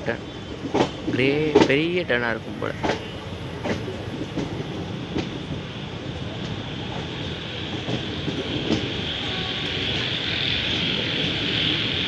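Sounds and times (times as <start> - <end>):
wheels clicking over rails: 0.0 - 10.1
train coaches rumbling: 0.0 - 12.0.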